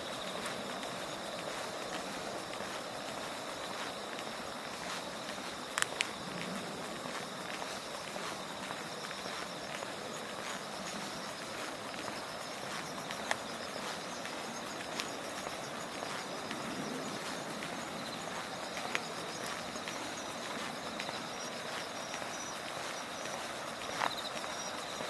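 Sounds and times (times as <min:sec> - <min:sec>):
footsteps: 0:00.0 - 0:25.0
insects chirping: 0:00.0 - 0:25.0
outdoor background hiss: 0:00.0 - 0:25.0.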